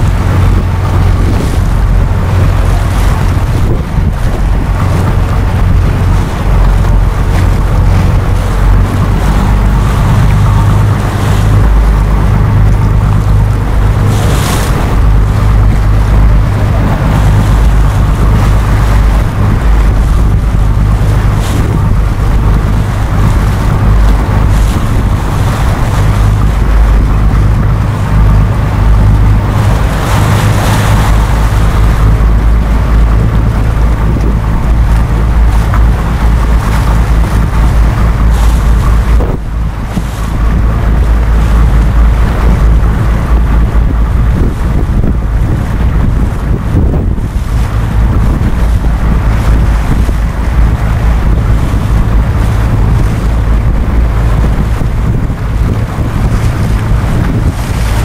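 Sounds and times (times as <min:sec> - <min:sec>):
choppy water and waves: 0:00.0 - 0:58.0
wind buffeting microphone: 0:00.0 - 0:58.0.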